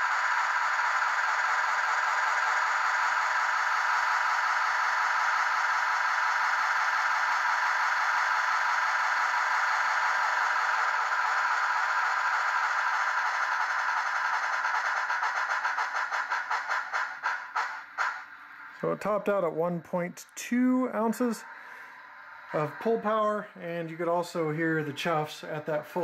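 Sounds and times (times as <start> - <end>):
rapid steam chuffs from small speaker: 0.0 - 26.0.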